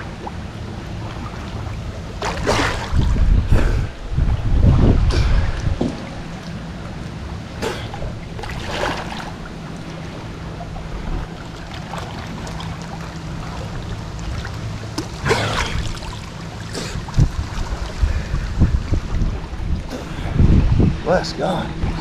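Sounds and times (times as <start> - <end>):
steady low hum: 0.0 - 22.0
water splashing and sloshing: 0.0 - 22.0
man coming up out of water: 2.2 - 9.9, 10.6 - 20.8.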